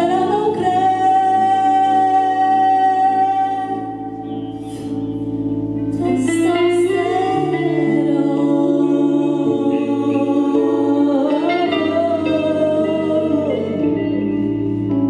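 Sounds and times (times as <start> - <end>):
woman singing into a microphone: 0.0 - 5.0, 5.8 - 15.0.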